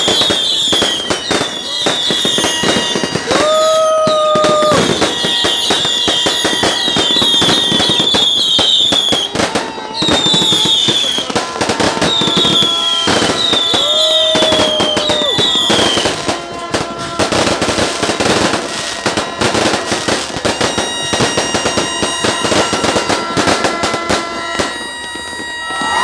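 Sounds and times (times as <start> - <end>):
falling firework whistles: 0.0 - 26.0
fireworks crackling and popping: 0.0 - 26.0
horn-like tones: 0.0 - 26.0.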